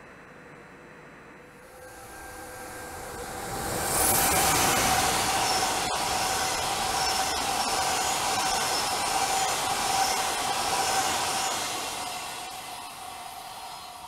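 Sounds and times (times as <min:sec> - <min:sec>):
steady whine: 0:01.4 - 0:14.0
train wheels rushing on rail: 0:01.6 - 0:14.0.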